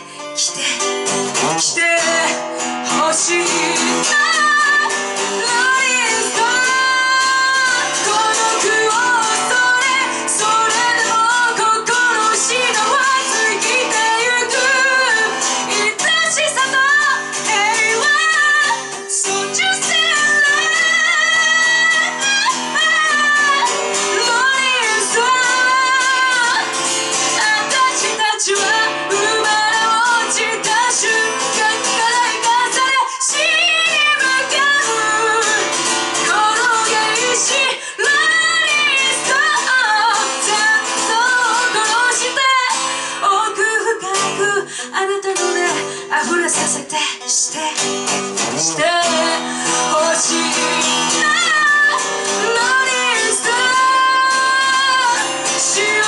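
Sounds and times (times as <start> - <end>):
woman singing: 0.0 - 56.0.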